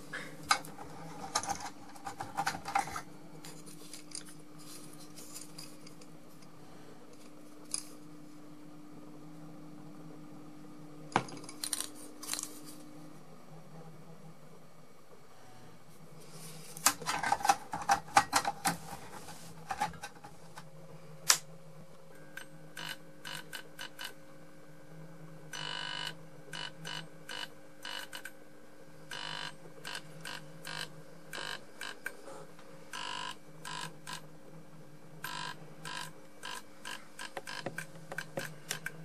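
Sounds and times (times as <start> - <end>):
fluorescent tube buzzing: 0.0 - 14.6, 15.3 - 39.0
low mains hum: 0.0 - 39.0.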